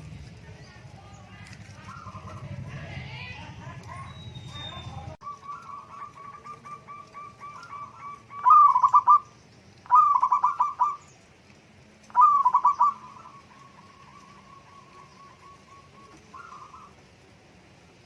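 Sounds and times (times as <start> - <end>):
doves cooing: 0.0 - 18.0.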